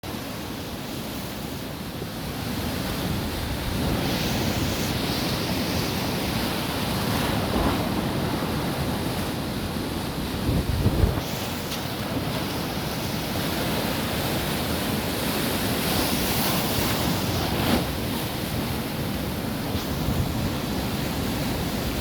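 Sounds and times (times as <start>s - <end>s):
sea waves breaking on shore: 0.0s - 22.0s
wind rumble on microphone: 0.2s - 22.0s.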